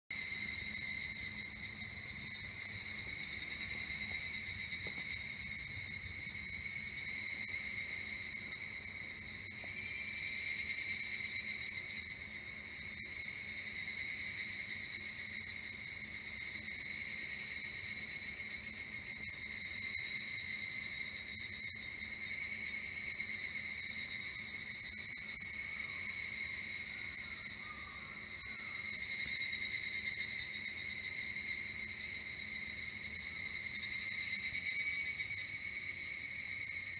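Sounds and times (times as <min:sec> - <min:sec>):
cicadas trilling in chorus: 0:00.1 - 0:36.9.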